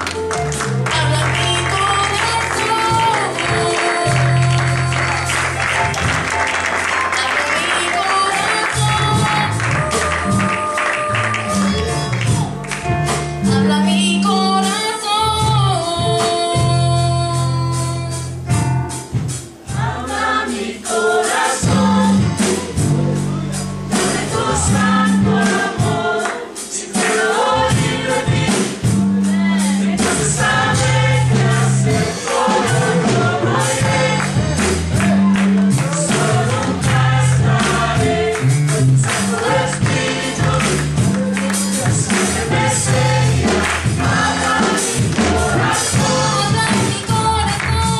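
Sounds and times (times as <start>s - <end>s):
choir singing gospel song: 0.0s - 18.4s, 19.1s - 47.9s
accompaniment with steady beat: 0.0s - 47.9s.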